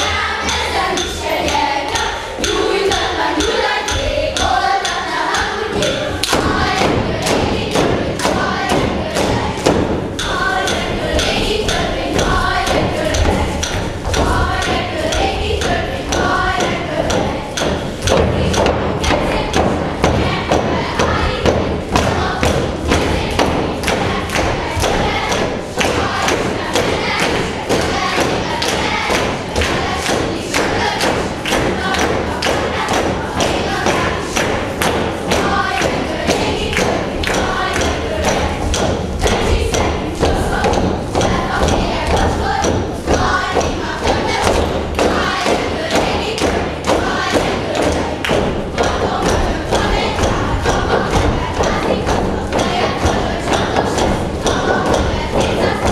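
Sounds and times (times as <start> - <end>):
group singing: 0.0 - 55.9.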